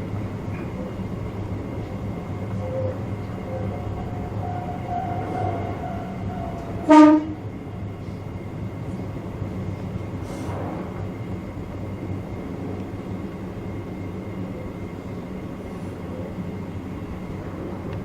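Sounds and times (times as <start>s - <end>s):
electric train running: 0.0s - 18.0s.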